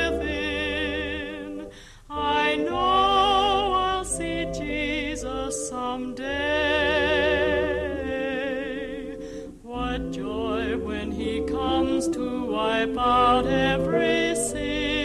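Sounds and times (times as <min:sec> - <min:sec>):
gospel singing: 0:00.0 - 0:15.0
low sustained bass: 0:00.0 - 0:15.0.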